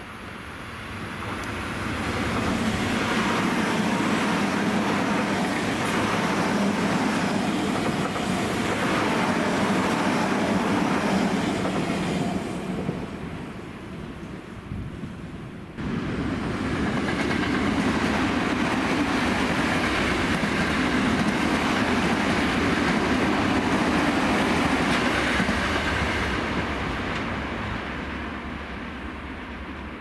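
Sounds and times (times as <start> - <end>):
electric train running past: 0.0 - 30.0.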